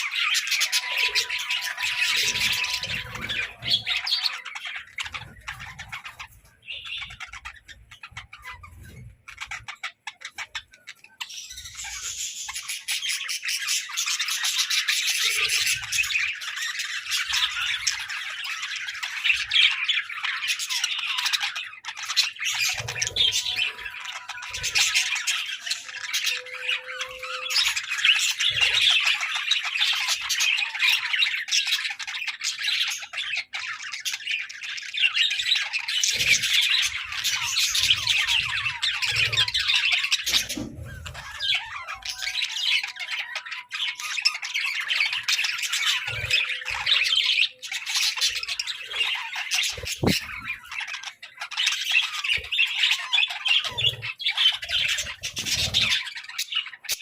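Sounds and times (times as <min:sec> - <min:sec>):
budgerigars chattering and squawking: 0:00.0 - 0:57.0.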